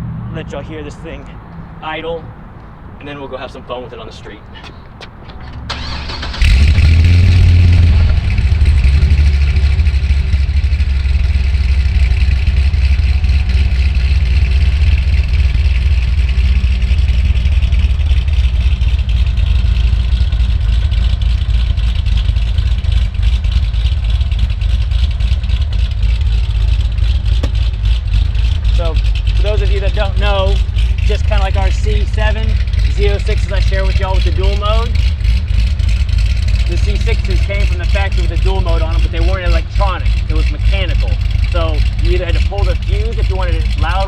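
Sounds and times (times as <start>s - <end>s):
car engine lumpy idle: 4.5s - 44.0s.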